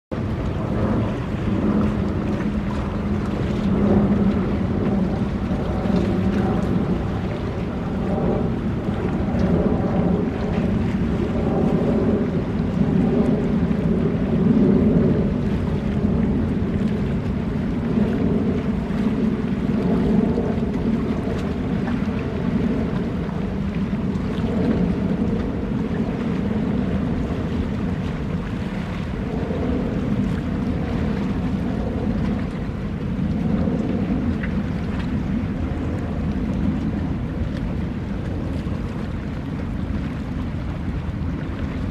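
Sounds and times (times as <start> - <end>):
wind: 0.0 - 41.9.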